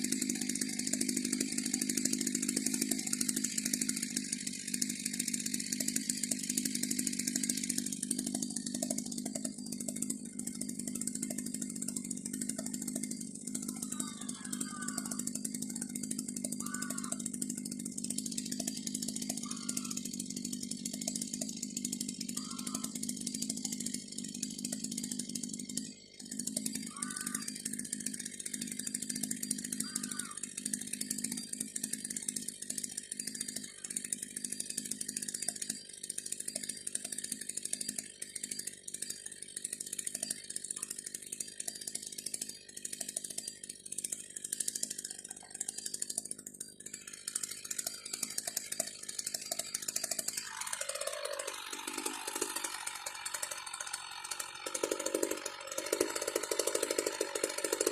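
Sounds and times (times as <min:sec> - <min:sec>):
chainsaw ripping a log: 0:00.0 - 0:57.9.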